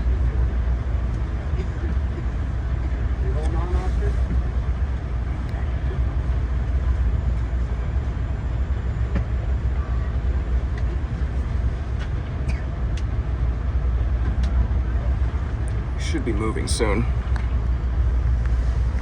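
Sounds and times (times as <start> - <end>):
low rumble and hum inside car: 0.0 - 19.0.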